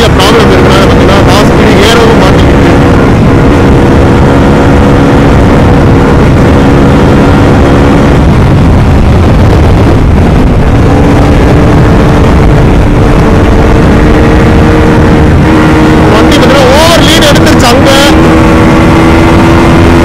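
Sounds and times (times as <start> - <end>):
motorcycle engine at speed: 0.0 - 20.0
wind rush: 0.0 - 20.0.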